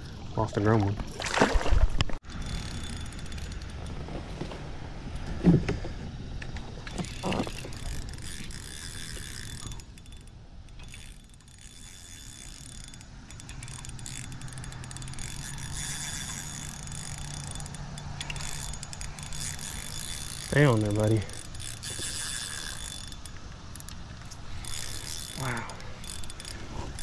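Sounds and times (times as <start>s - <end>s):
fishing reel cranking: 2.2s - 4.0s, 6.8s - 27.0s
cicadas droning: 2.2s - 27.0s.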